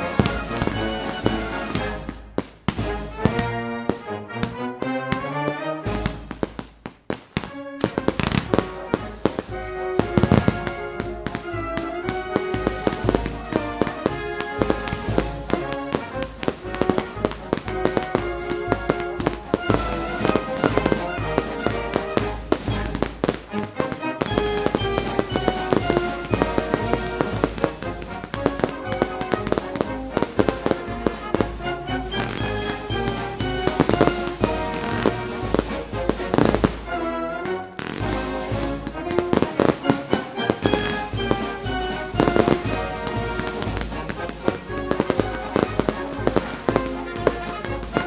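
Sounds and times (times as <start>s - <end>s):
music playing: 0.0s - 6.6s, 7.4s - 48.0s
fireworks bangs and crackles: 0.0s - 48.0s.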